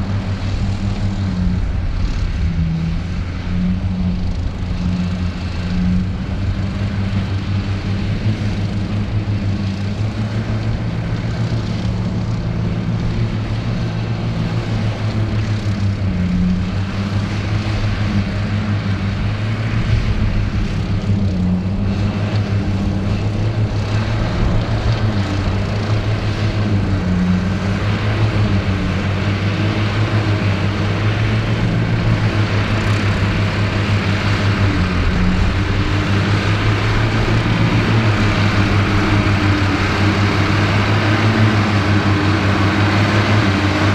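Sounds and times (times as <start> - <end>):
forage harvester machinery noise: 0.0 - 43.9
tractor diesel engine drone: 0.0 - 43.9.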